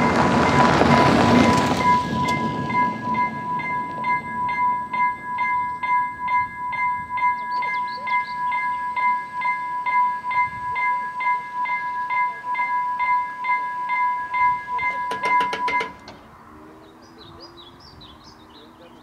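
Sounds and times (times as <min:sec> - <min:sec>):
level crossing bell ringing: 0:00.0 - 0:16.2
train noise: 0:00.0 - 0:19.0.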